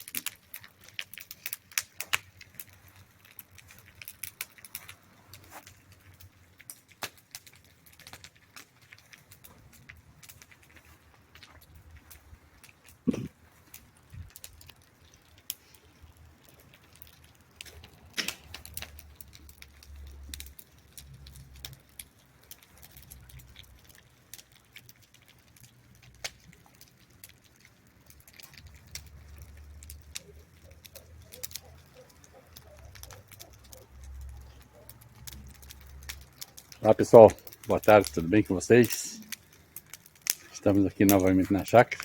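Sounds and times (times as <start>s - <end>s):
bonfire crackling: 0.0s - 42.0s
fire pops and snaps: 0.0s - 42.0s.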